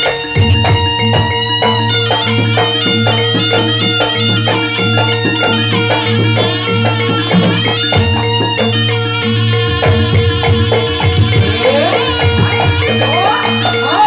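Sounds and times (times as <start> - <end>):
gong-like tones: 0.0 - 14.0
reedy shawm melody: 0.0 - 14.0.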